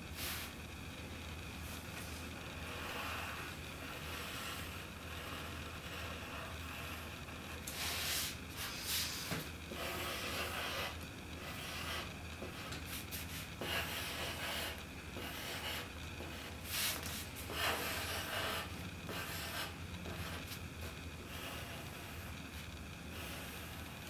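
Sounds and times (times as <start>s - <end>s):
faint low hum: 0.0s - 24.0s
pencil scratching on paper: 2.6s - 22.3s.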